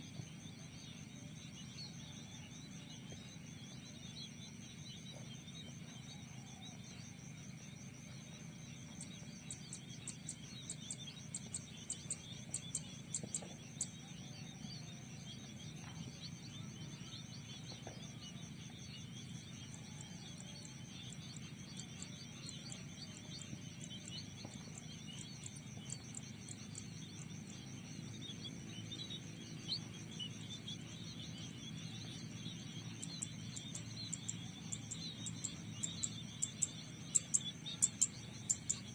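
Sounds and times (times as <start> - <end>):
insect trill: 0.0 - 38.9
small birds chirping: 0.0 - 38.9.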